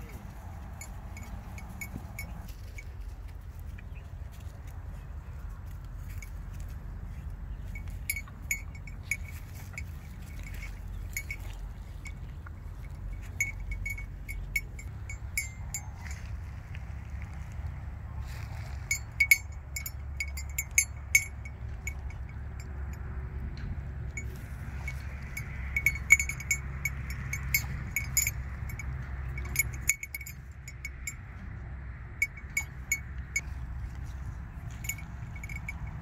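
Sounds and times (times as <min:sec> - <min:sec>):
cow bell clinking: 0:00.0 - 0:04.0, 0:05.7 - 0:16.7, 0:18.6 - 0:36.0
steady low rumble: 0:00.0 - 0:36.0.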